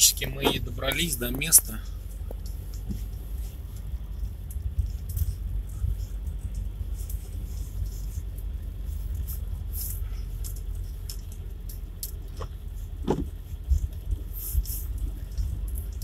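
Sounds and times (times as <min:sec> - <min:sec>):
engine and tyre rumble: 0:00.0 - 0:16.0
light ticks and rattles: 0:00.0 - 0:16.0.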